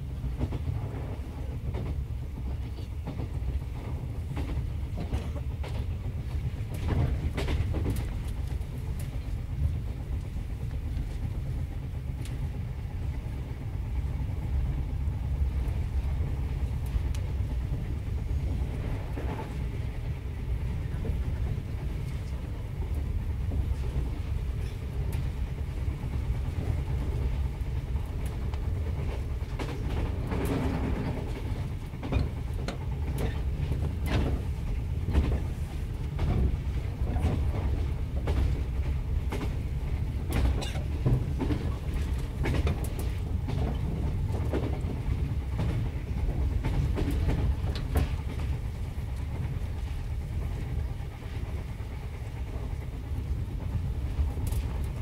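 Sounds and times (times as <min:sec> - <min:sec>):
train car rumbling: 0:00.0 - 0:55.0.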